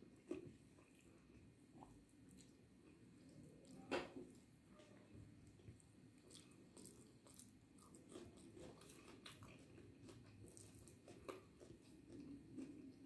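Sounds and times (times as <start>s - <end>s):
chewing and mouth sounds: 0.1s - 13.0s.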